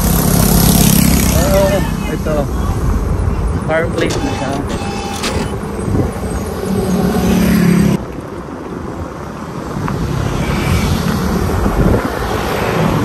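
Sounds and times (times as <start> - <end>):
wind rushing on microphone: 0.0 - 4.7, 5.4 - 13.0
vehicle and road noise: 0.0 - 13.0.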